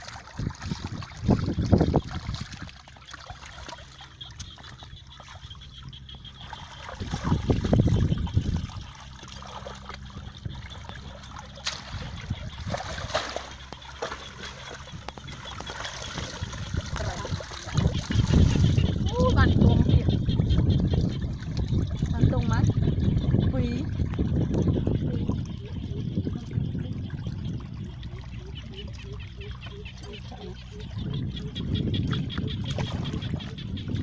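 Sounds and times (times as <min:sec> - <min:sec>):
water splashing and trickling: 0:00.0 - 0:34.0.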